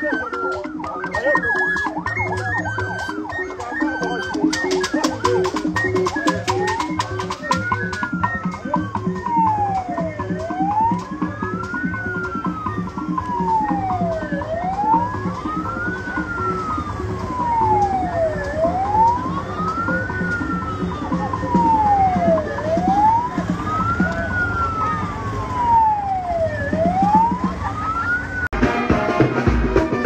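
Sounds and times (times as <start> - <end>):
vehicle siren wailing: 0.0 - 28.6.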